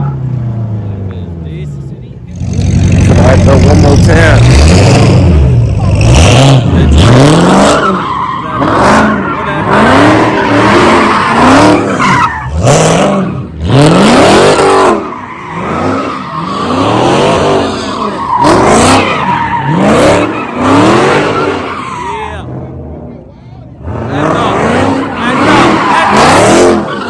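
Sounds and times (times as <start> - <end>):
car engine revving: 0.0 - 27.0
tires screeching: 0.0 - 27.0.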